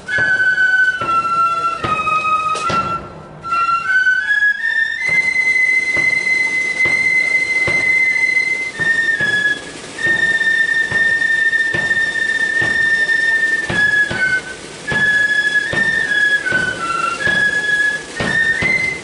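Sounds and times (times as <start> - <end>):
drum beating steadily: 0.0 - 19.0
flute band playing high notes: 0.0 - 19.0.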